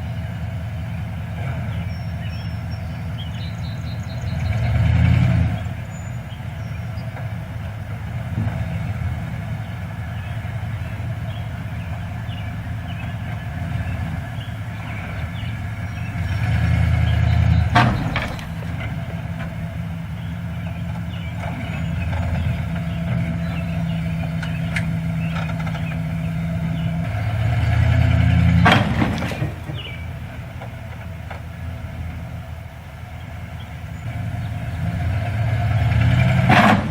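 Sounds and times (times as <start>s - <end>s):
heavy engine running: 0.0s - 36.9s.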